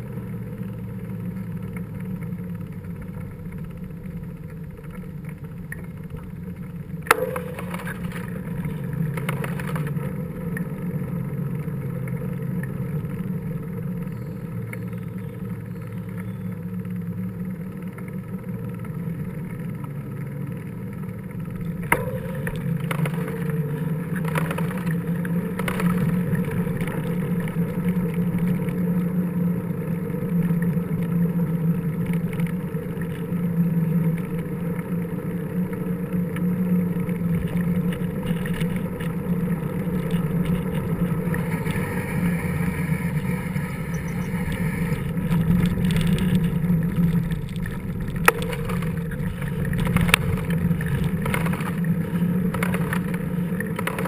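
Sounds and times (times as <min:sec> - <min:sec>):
bike tyre and wind rumble: 0:00.0 - 0:54.0.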